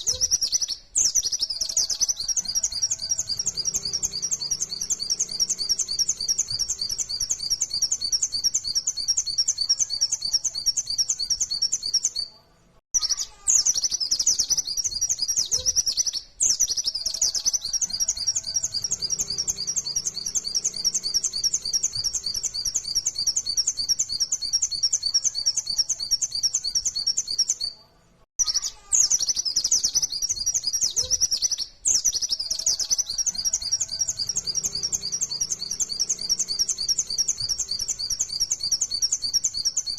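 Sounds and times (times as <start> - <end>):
bird chirping rapidly: 0.0 - 12.3, 13.0 - 27.8, 28.4 - 39.9.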